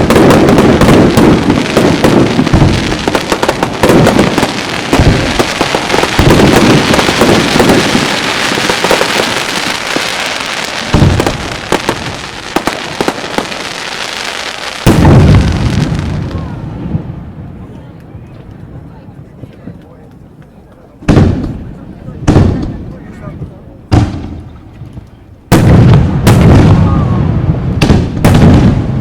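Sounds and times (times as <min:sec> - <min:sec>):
deep booms of fireworks shells: 0:00.0 - 0:17.6, 0:21.0 - 0:29.0
fireworks crackling: 0:00.0 - 0:29.0.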